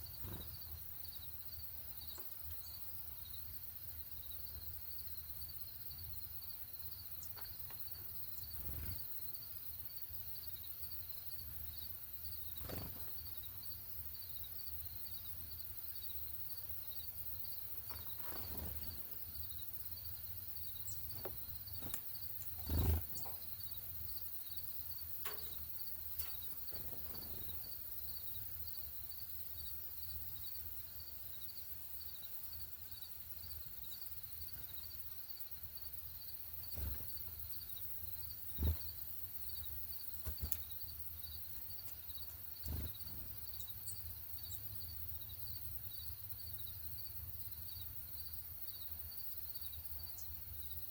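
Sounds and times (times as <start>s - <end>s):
crickets chirping: 0.0s - 50.9s.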